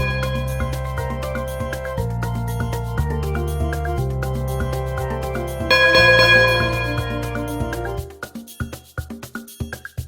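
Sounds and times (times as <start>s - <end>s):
light instrumental music: 0.0s - 10.0s.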